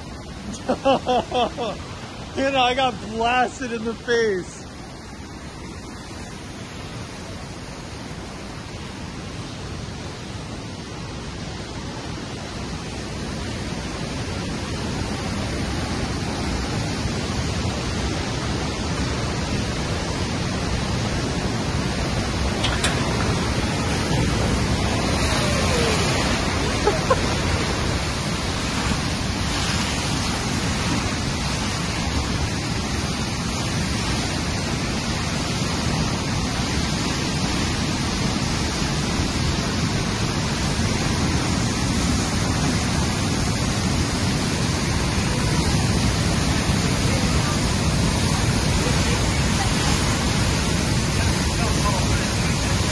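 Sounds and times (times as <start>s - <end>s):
floodwater rushing through gorge: 0.0s - 52.9s.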